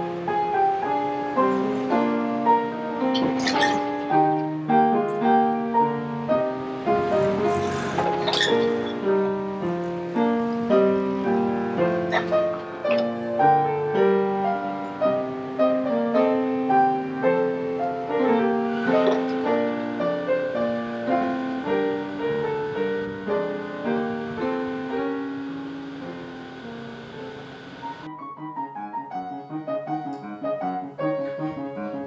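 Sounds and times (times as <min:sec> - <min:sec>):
solo piano playing: 0:00.0 - 0:32.0.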